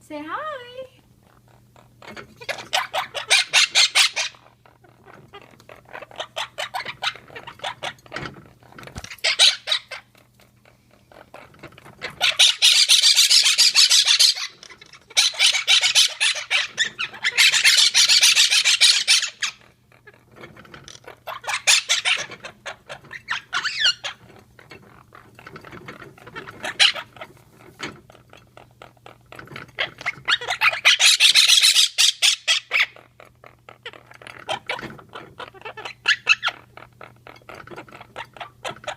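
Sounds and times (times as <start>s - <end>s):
parrots squawking: 1.2s - 27.7s, 28.3s - 38.9s
parrots chattering: 1.2s - 38.9s.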